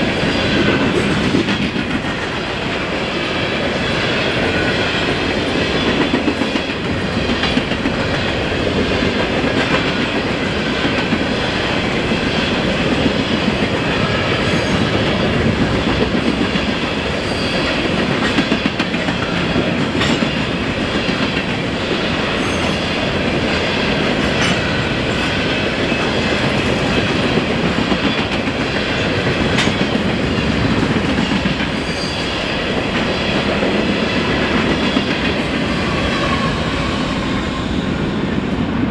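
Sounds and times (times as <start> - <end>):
wheels clacking over rail joints: 0.0 - 38.8
train wheels rumbling on rails: 0.0 - 38.9.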